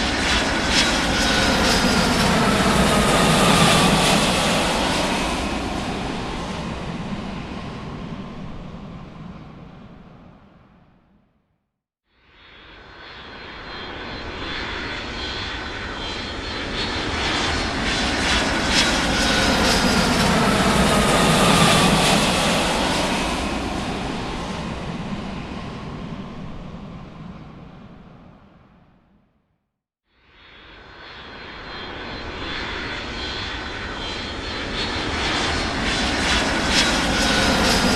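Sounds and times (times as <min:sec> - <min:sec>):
large aircraft flying past: 0:00.0 - 0:11.0, 0:12.4 - 0:29.2, 0:30.4 - 0:37.9.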